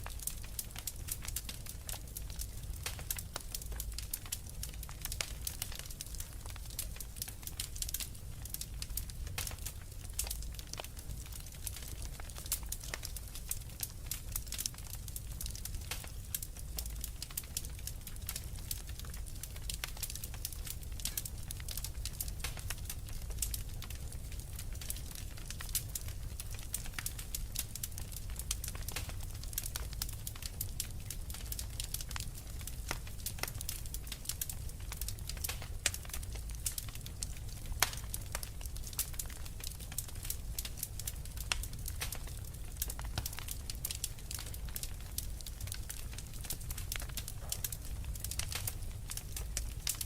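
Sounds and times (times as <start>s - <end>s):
sharp fire pops: 0.0s - 50.0s
wood fire crackling: 0.0s - 50.0s.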